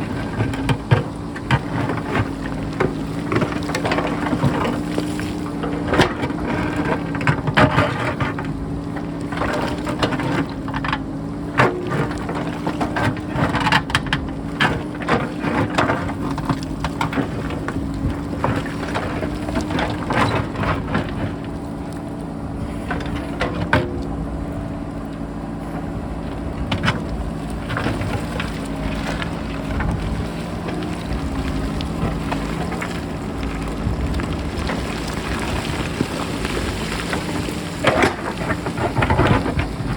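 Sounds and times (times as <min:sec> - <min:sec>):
rocks clattering and knocking: 0:00.0 - 0:24.2, 0:25.7 - 0:39.9
diesel engine running: 0:00.0 - 0:39.9.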